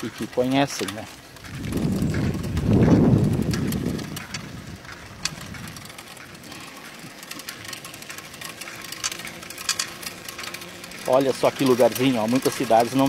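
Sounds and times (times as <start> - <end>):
bicycle rolling on pavement: 0.0 - 13.0
bike clicks and rattles: 0.0 - 13.0.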